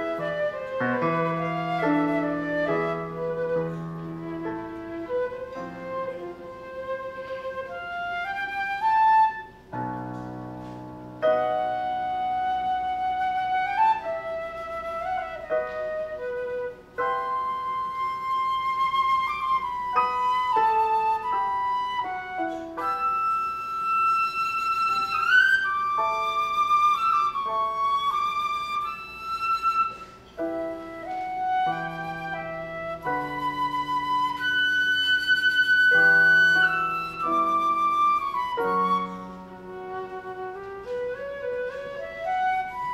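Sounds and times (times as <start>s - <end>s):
flute solo melody: 0.0s - 42.9s
piano accompaniment: 0.0s - 42.9s.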